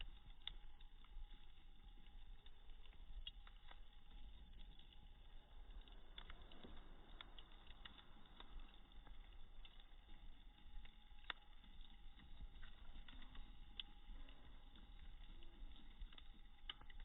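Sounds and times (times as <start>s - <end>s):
wood bonfire crackling: 0.0s - 17.0s.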